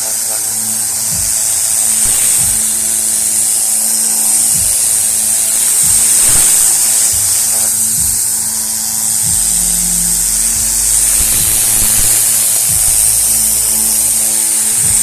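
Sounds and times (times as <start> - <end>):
air gun hissing: 0.0 - 15.0
background music with beat: 0.0 - 15.0.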